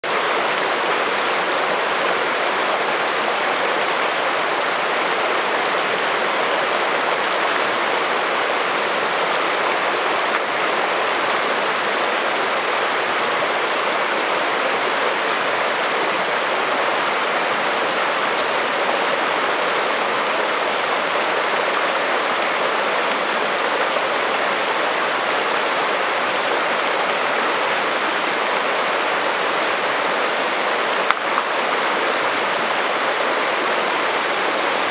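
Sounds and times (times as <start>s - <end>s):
creek flowing over cobbles: 0.0s - 34.9s.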